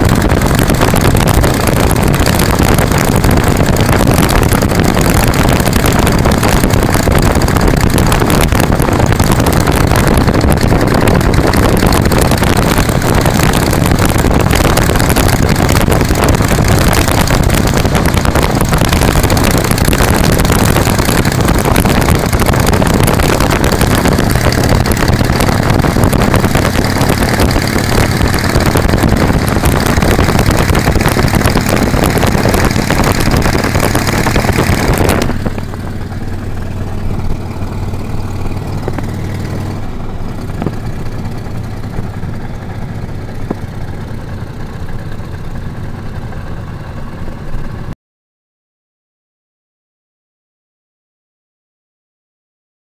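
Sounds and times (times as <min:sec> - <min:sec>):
heavy wind noise: 0:00.0 - 0:47.9
motorcycle engine cruising: 0:00.0 - 0:48.0
road noise: 0:00.0 - 0:48.0.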